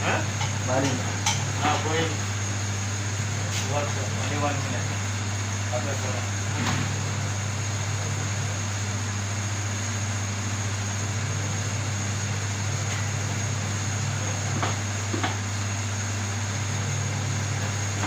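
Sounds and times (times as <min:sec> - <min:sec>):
low machine hum with whine: 0:00.0 - 0:18.0.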